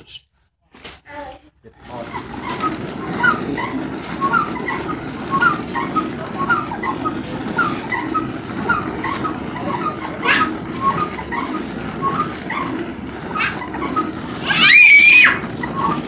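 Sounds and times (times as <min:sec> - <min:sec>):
grinding rumble of mill: 0:01.7 - 0:16.0
wooden pole squeaks: 0:01.8 - 0:16.0.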